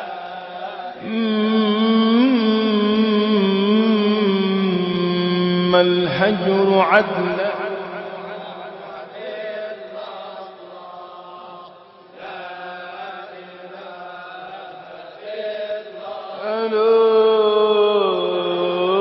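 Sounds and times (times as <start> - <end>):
devotional chanting with held notes: 0.0 - 19.0.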